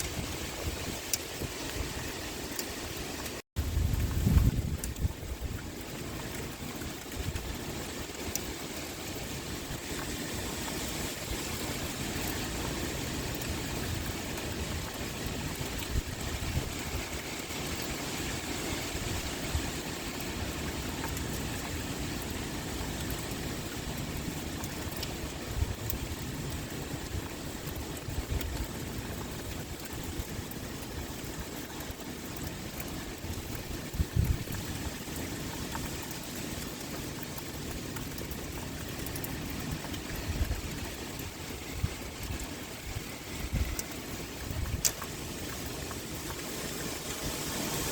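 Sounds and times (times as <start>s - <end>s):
wind blowing: 0.0s - 30.3s, 38.8s - 47.9s
heavy rain pouring: 0.0s - 47.9s.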